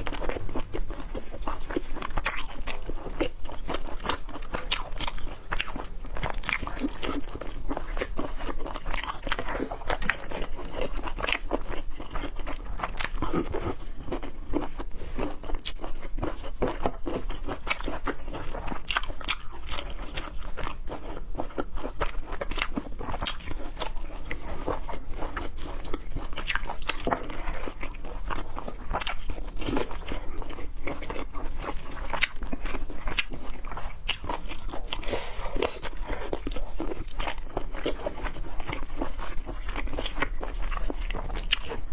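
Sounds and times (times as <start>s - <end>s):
biting crunching and chewing: 0.0s - 41.9s.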